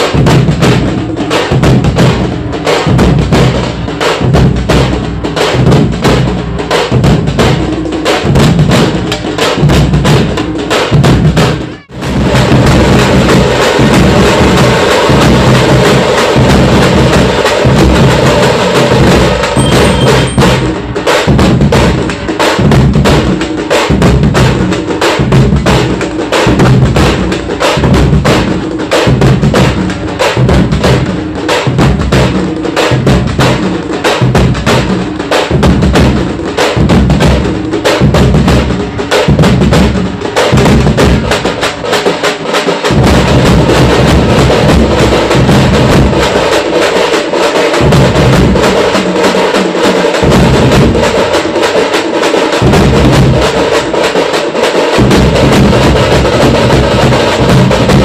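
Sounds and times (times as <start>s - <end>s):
fast street drumming: 0.0s - 58.0s
heavy low drum beat: 0.0s - 58.0s.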